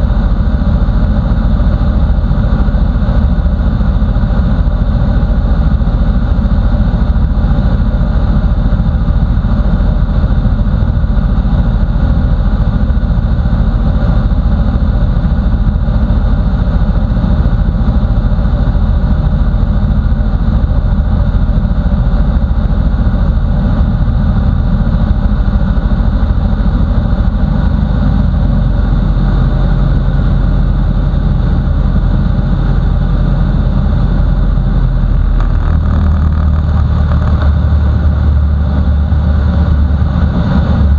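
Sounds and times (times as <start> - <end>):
light aircraft engine and propeller: 0.0 - 40.9.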